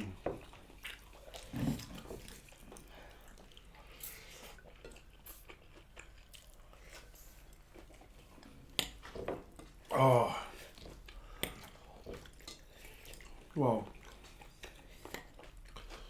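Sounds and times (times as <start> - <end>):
chewing with mouth clicks: 0.0 - 9.9, 10.6 - 16.0.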